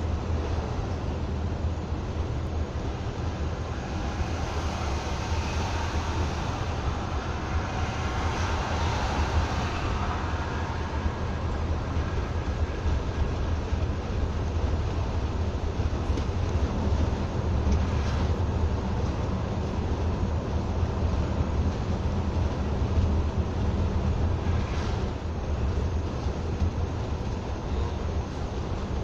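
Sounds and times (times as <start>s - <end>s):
tyres on asphalt: 0.0s - 29.0s
vehicle engine rumble: 0.0s - 29.0s.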